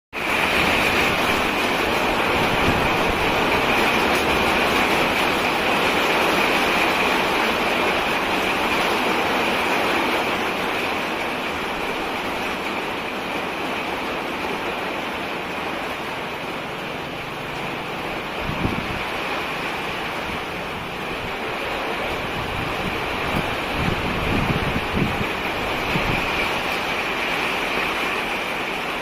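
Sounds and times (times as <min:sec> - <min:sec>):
steady rainfall hiss: 0:00.2 - 0:29.0.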